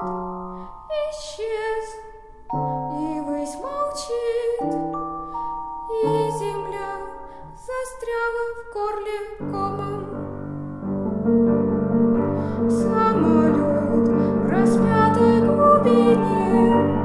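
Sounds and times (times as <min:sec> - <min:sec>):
slow piano chords and melody: 0:00.0 - 0:17.0.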